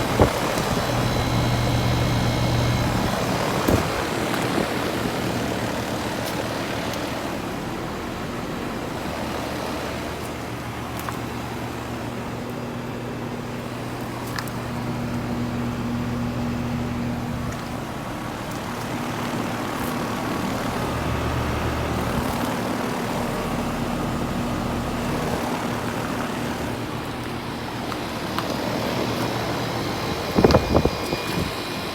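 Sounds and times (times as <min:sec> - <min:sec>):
compressor hum: 0:00.0 - 0:31.9
condenser fans rushing: 0:00.0 - 0:31.9.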